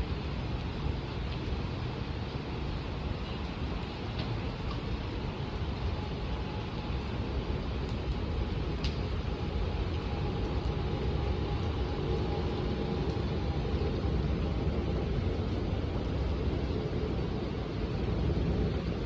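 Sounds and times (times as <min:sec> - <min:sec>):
rain falling on paving: 0:00.0 - 0:19.0.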